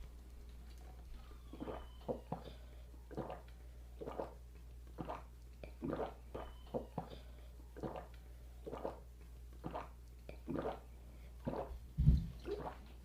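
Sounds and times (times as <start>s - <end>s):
wet squishy chewing: 0.0s - 11.7s.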